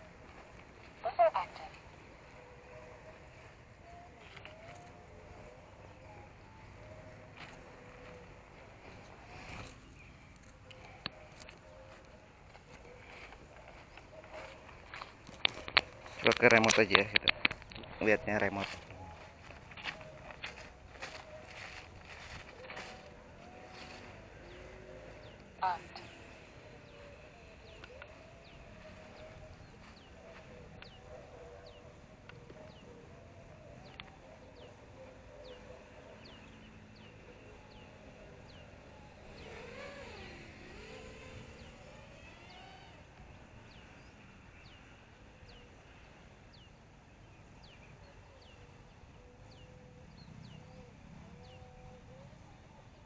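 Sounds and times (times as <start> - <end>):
bird chirping: 0.0 - 53.0
faint wavering hum: 0.0 - 53.0.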